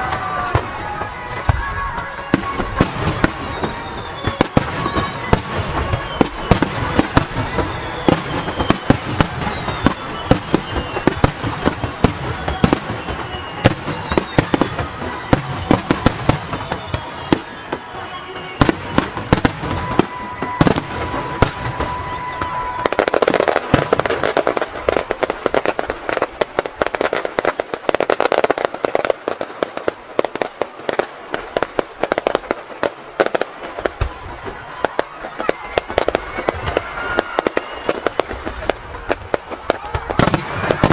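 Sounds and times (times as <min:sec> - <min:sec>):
firework crackling: 0:00.0 - 0:40.9
firework whistle: 0:00.0 - 0:40.9.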